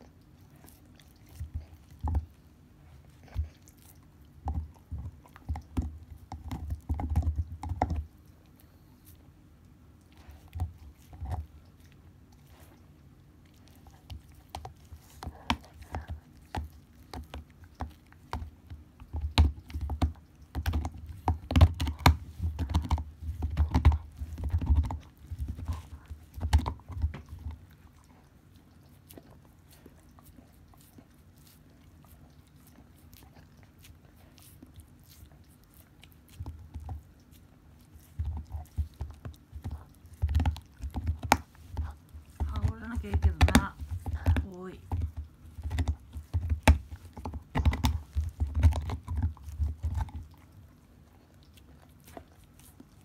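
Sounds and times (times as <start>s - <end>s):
dog gnawing on bone: 0.0s - 53.0s.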